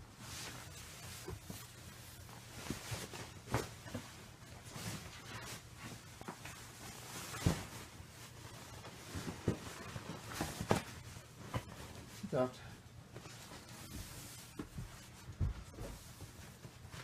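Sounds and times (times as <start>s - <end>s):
bedding rustles and knocks: 0.1s - 17.0s.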